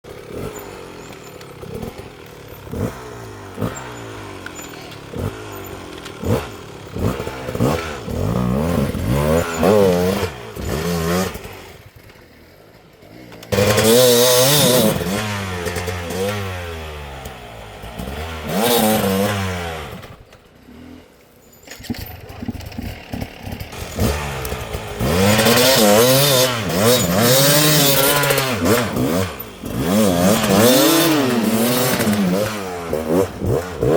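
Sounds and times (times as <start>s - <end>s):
dirt bike engines revving: 0.1s - 33.9s.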